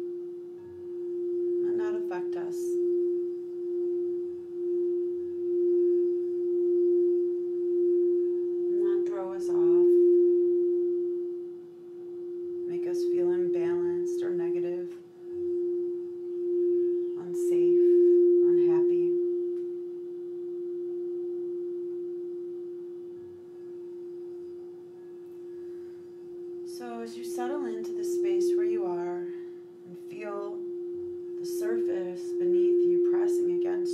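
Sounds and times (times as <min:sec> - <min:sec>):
crystal singing bowl tone: 0:00.0 - 0:33.9.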